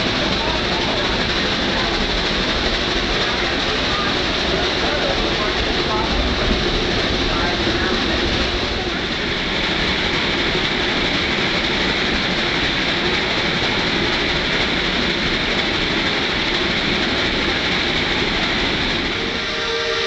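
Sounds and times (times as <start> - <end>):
steam locomotive working: 0.0 - 20.0
train cars rolling on track: 0.0 - 20.0.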